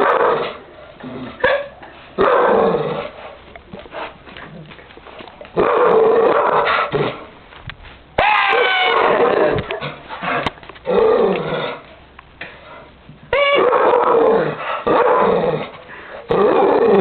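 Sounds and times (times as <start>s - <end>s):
dogs barking and growling: 0.0s - 7.4s, 8.2s - 17.0s.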